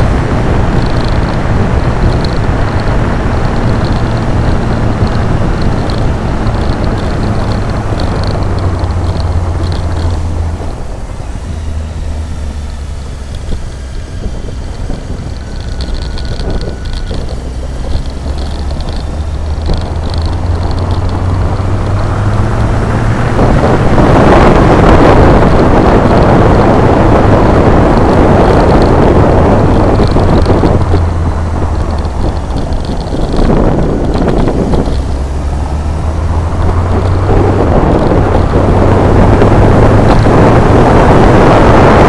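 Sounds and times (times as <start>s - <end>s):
motorcycle engine running: 0.0s - 42.0s
wind noise on microphone: 0.0s - 42.0s.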